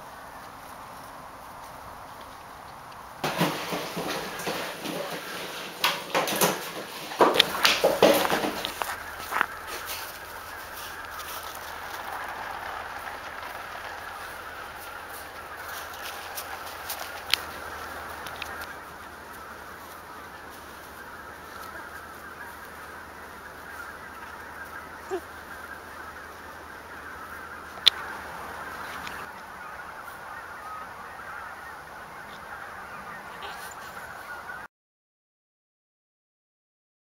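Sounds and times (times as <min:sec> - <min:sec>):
distant bird calls: 0:00.0 - 0:34.7.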